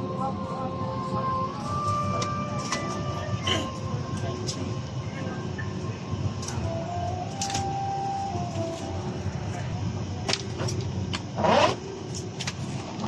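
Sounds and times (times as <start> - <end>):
airliner cabin hum: 0.0 - 13.0.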